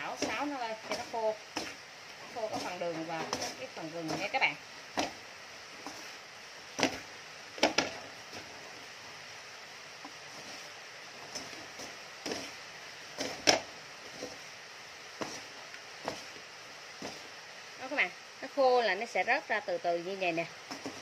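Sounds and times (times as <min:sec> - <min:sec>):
wooden spatula scraping metal wok: 0:00.0 - 0:18.0, 0:20.6 - 0:21.0
rain hissing: 0:00.0 - 0:21.0.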